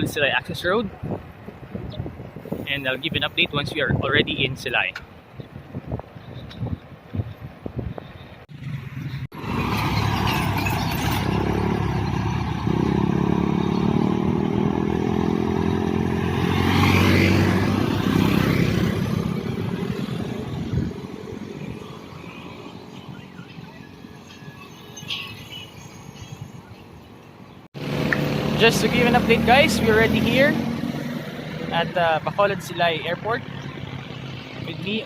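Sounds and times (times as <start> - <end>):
vehicle passing on road: 5.1 - 35.0.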